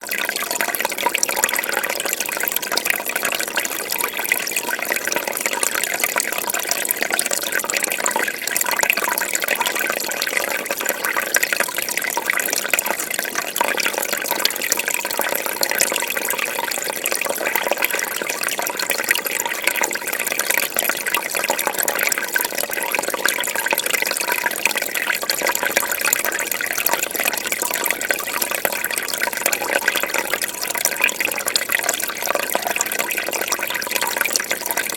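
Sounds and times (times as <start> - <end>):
fish tank water bubbling: 0.0 - 34.9.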